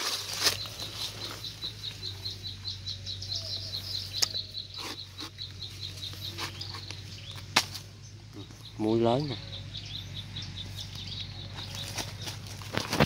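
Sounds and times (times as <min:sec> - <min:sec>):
steady high chirping: 0:00.0 - 0:12.5.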